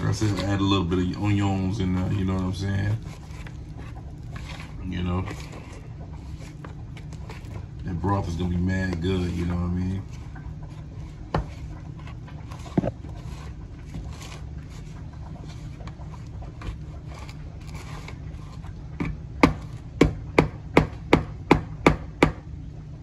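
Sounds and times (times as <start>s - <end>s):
dough scraping in plastic bowl: 0.0s - 20.0s
low steady hum: 0.0s - 23.0s.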